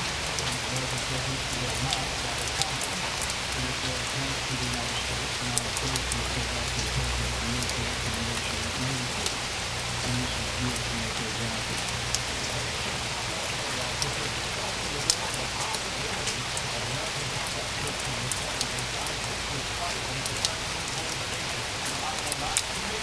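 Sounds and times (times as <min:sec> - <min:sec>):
raindrops ticking: 0:00.0 - 0:23.0
steady rain hiss: 0:00.0 - 0:23.0.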